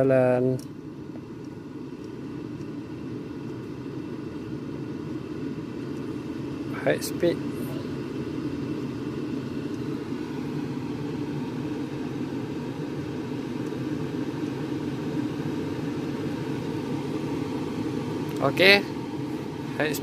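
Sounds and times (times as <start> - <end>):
car air conditioning blower fan: 0.0 - 20.0.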